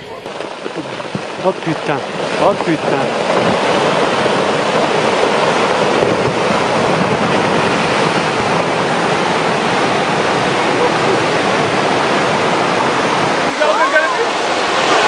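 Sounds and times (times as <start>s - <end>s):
turbulent water rushing: 0.0s - 15.0s.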